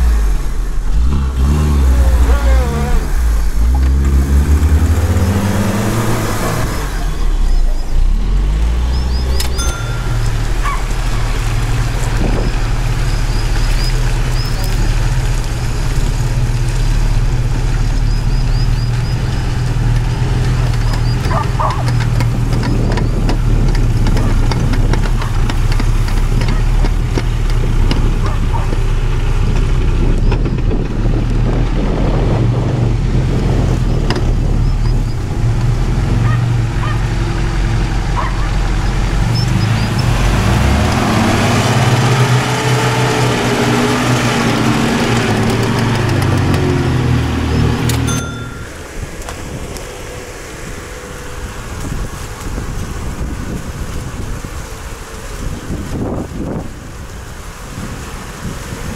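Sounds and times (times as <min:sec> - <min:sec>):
engine revving: 0:00.0 - 0:52.2
engine running under load: 0:00.0 - 0:58.9.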